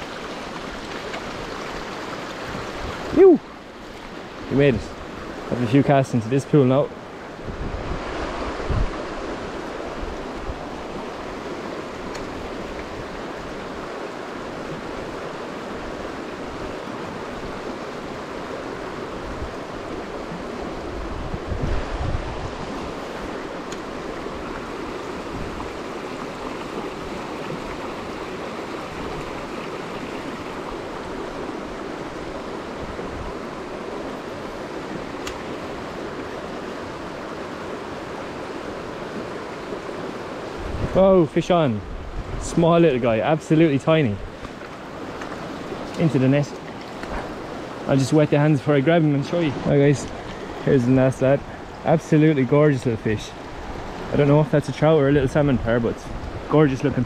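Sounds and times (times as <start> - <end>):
river rushing over stones: 0.0 - 57.0.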